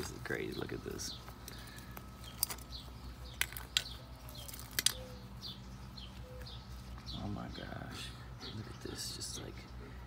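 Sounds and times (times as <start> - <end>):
birds chirping: 0.0 - 10.0
low steady hum: 0.0 - 10.0.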